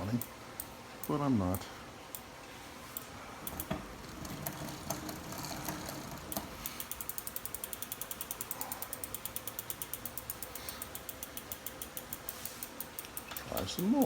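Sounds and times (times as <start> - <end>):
bicycle freehub ticking: 0.0 - 2.3, 2.9 - 14.0.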